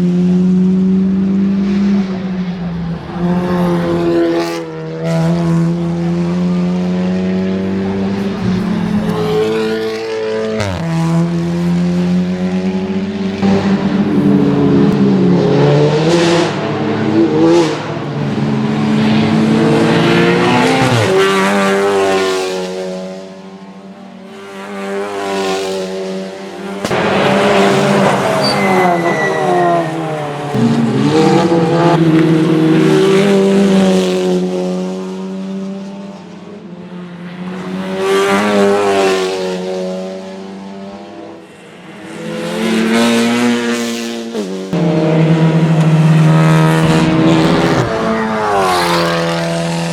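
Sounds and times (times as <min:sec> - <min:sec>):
race cars passing at speed: 0:00.0 - 0:49.9.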